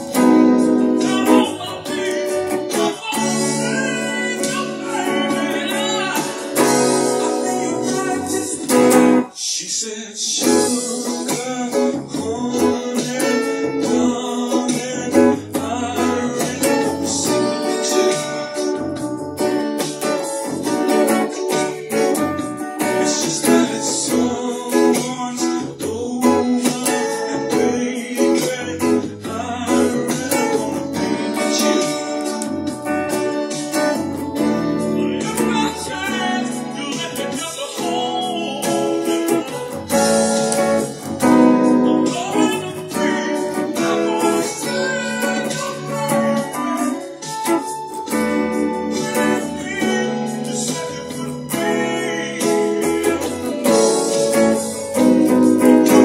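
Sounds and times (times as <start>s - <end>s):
electric guitar: 0.0s - 56.0s
person singing: 0.0s - 56.0s.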